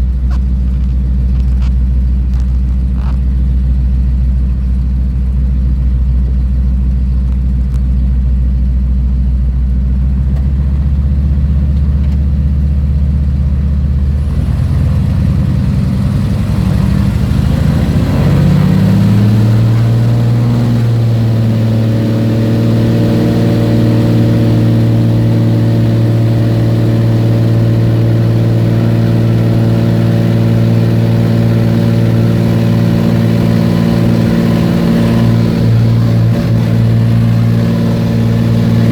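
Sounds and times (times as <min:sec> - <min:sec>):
propeller engine throttling up: 0:00.0 - 0:38.9.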